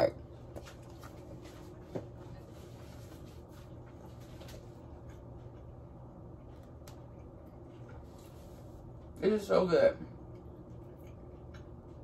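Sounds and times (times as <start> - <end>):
steady low hum: 0.0 - 12.0
person chewing a sandwich: 0.5 - 9.1, 10.2 - 12.0.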